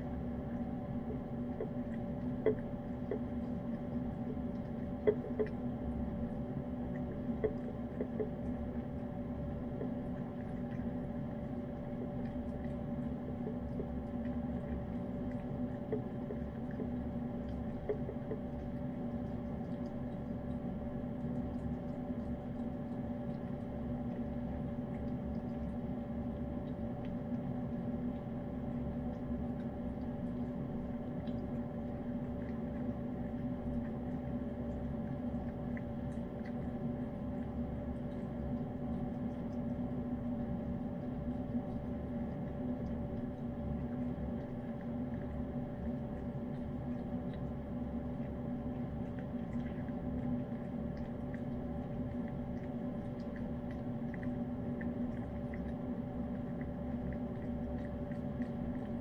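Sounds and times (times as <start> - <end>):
cat licking and chewing wet food: 0.0 - 59.0.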